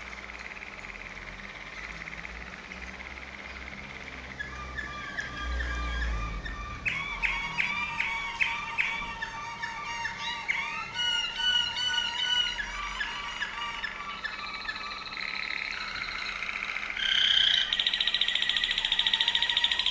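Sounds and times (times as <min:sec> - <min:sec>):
canary singing trills: 0:00.0 - 0:19.9.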